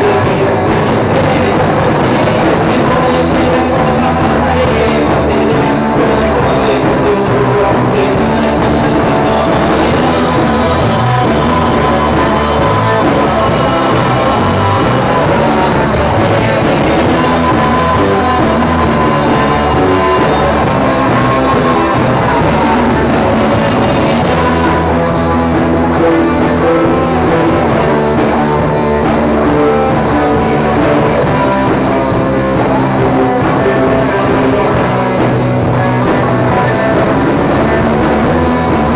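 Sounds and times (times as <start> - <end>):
electric guitar: 0.0 - 38.9
rock band music: 0.0 - 38.9.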